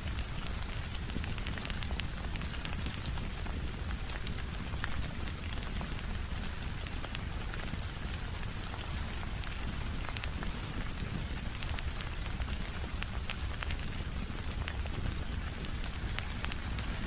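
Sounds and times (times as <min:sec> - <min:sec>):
rain on a window: 0:00.0 - 0:17.0
wood fire crackling: 0:00.0 - 0:17.0.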